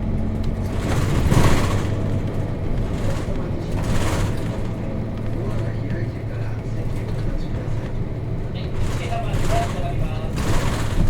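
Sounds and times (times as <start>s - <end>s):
bus diesel engine hum: 0.0s - 11.0s.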